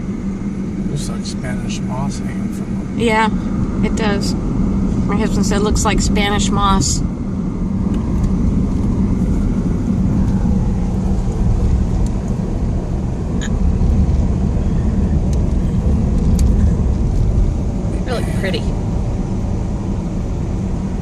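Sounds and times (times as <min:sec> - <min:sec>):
car driving rumble inside cabin: 0:00.0 - 0:21.0.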